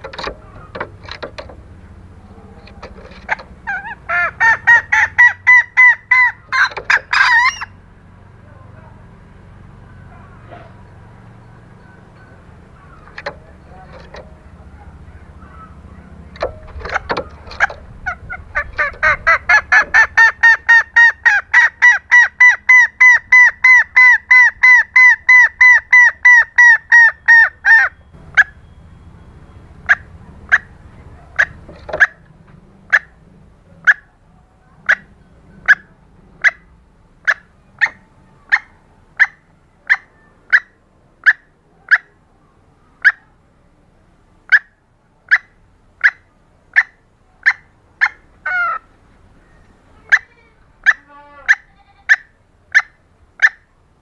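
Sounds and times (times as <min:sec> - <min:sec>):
junglefowl clucking: 0:00.0 - 0:07.8, 0:11.8 - 0:28.6, 0:29.8 - 0:34.2, 0:34.8 - 0:42.2, 0:43.0 - 0:43.3, 0:44.4 - 0:53.7.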